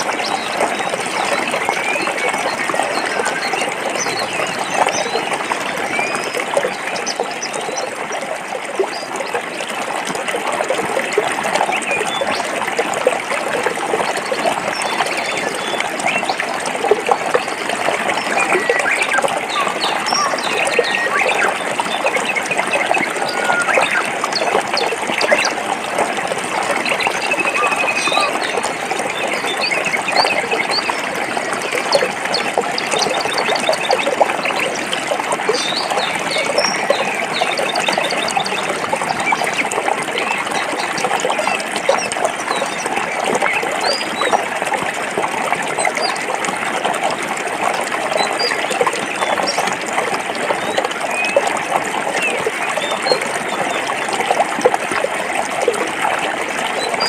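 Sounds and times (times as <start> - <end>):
water splashing over rocks: 0.0 - 57.0.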